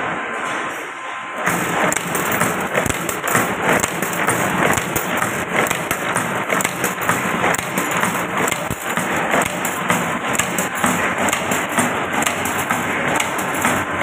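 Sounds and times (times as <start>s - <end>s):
wire forming machine clattering: 1.4s - 14.0s.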